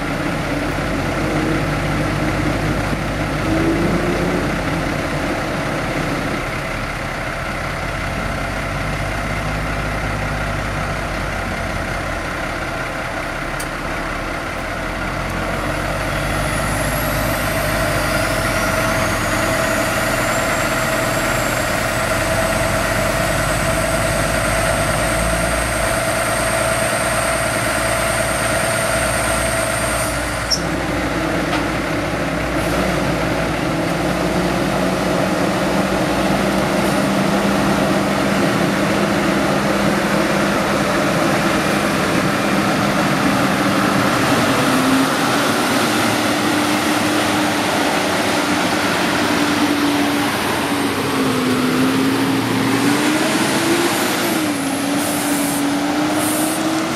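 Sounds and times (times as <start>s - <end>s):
diesel truck engine idling: 0.0s - 56.9s.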